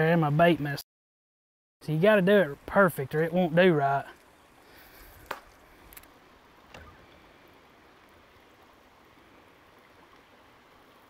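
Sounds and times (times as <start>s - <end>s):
faint steady hiss: 1.8s - 11.0s.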